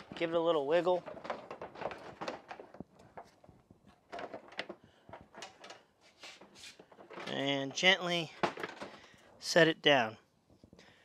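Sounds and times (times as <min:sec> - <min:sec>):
plastic scraping: 0:00.0 - 0:09.4.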